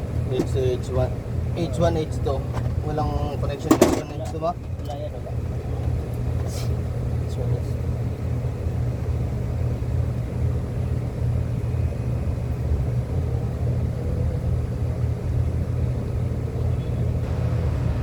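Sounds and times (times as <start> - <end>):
low machine rumble: 0.0 - 18.0.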